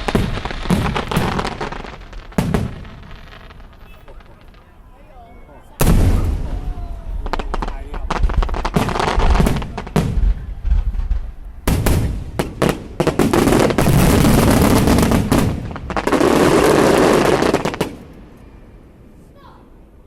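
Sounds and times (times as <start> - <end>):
fireworks bangs and crackle: 0.0 - 18.4.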